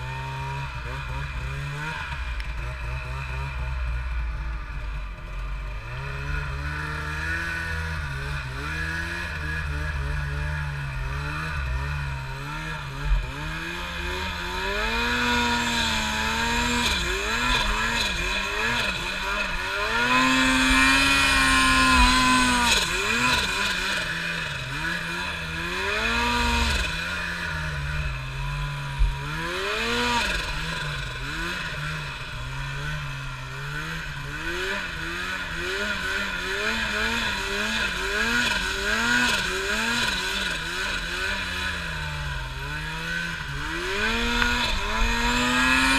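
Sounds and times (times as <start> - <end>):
snowmobile engine revving: 0.0 - 45.9.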